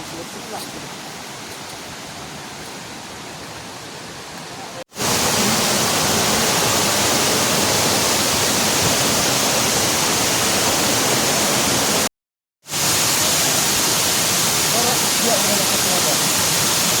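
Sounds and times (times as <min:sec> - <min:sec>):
waterfall rushing: 0:00.0 - 0:12.1, 0:12.7 - 0:17.0.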